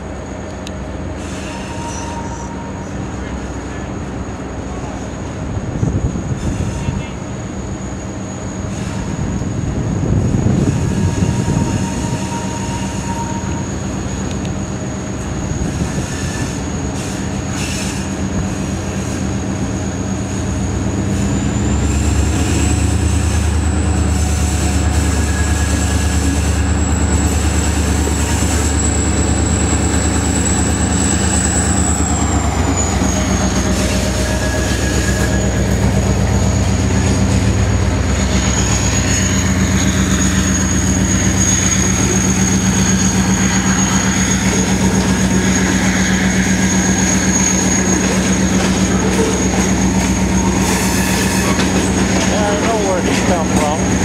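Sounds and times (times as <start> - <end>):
locomotive engine rumble: 2.7 - 54.0.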